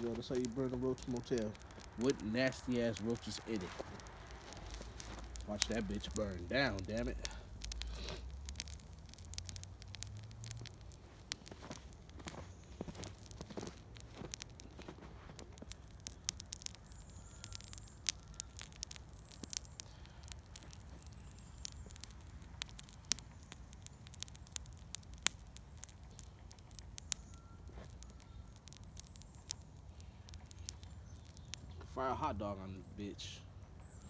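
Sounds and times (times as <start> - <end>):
fire crackling: 0.0 - 34.0
low steady fire rumble: 0.0 - 34.0.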